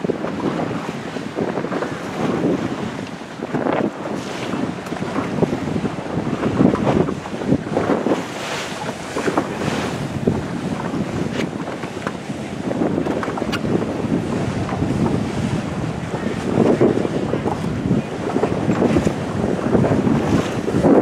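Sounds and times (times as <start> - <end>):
water splashing against hull: 0.0 - 21.0
wind buffeting microphone: 0.0 - 21.0.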